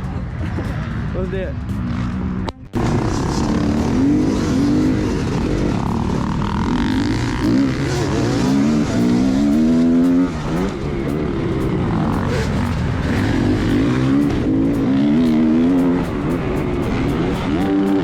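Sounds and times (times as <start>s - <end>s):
dirt bike engine revving: 1.6s - 18.0s.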